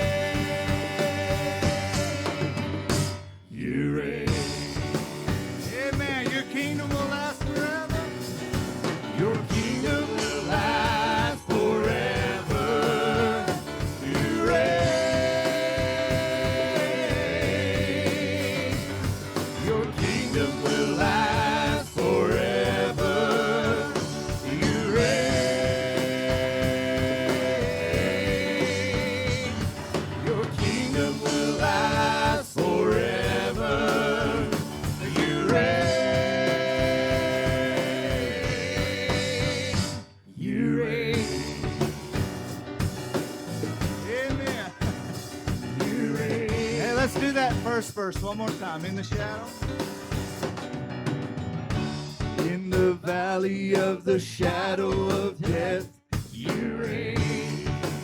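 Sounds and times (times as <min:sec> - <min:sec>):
live gospel band playing: 0:00.0 - 0:58.0.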